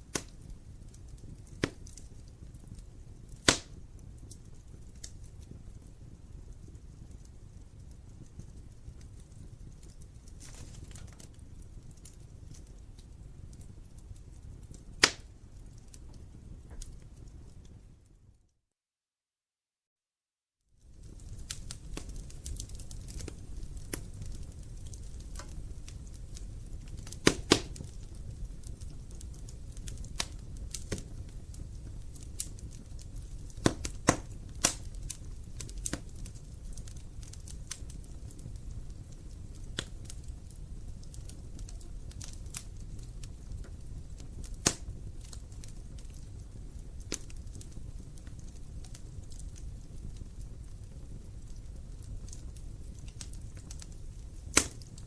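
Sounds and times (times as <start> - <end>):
low rumble of flame: 0.0 - 18.5, 20.7 - 55.0
wood fire crackling: 0.0 - 18.5, 20.7 - 55.0.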